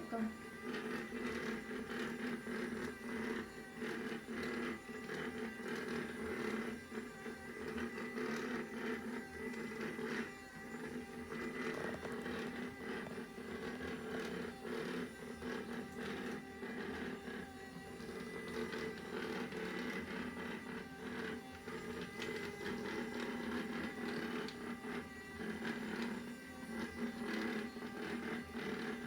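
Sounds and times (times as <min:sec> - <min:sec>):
robot vacuum motor whine: 0:00.0 - 0:29.0.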